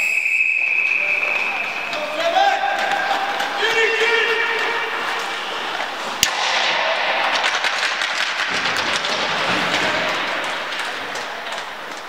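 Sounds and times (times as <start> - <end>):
crowd noise: 0.0 - 12.0
scattered claps: 0.8 - 12.0
hockey stick cracking puck: 1.9 - 12.0.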